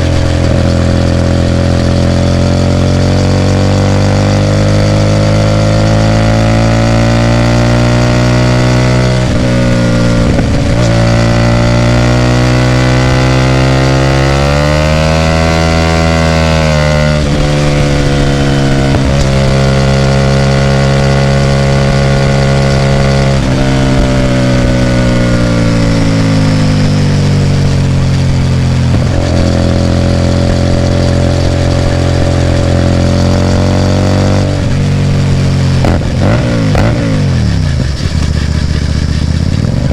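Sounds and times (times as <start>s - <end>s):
motorcycle engine with loud exhaust: 0.0s - 39.9s.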